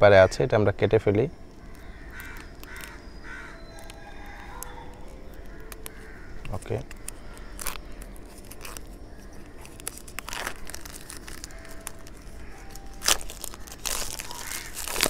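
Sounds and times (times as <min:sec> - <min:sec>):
plastic wrap crinkling and tearing: 0:01.6 - 0:15.0.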